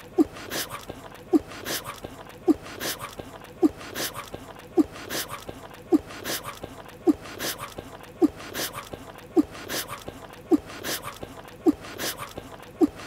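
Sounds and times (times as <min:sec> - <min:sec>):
smacking munch: 0:00.0 - 0:13.0.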